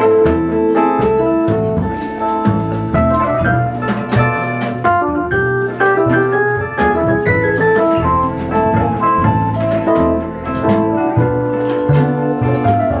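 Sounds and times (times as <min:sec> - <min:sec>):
walking bass line: 0:00.0 - 0:13.0.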